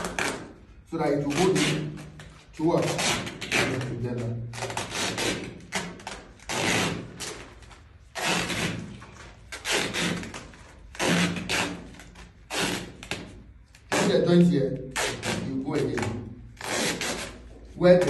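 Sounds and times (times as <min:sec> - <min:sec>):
foam insulation scraping: 0:01.2 - 0:18.0.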